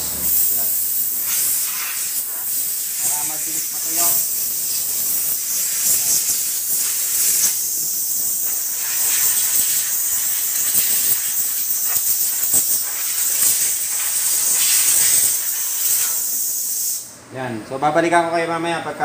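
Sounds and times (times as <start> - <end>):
compressed gas hissing from nozzle: 0.0 - 17.1.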